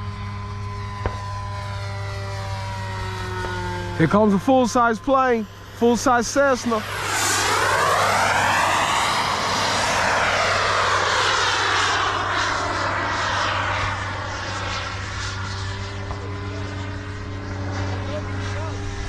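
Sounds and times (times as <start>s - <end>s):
propeller plane passing overhead: 0.0s - 19.0s.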